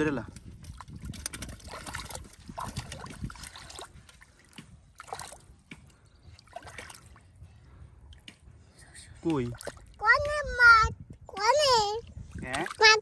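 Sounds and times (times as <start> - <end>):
muddy water splashing: 0.3 - 8.5, 9.2 - 10.6, 11.5 - 13.0.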